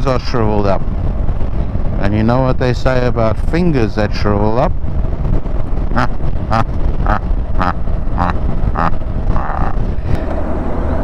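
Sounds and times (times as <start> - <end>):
motorcycle engine drone: 0.0 - 11.0
wind noise on microphone: 0.0 - 11.0.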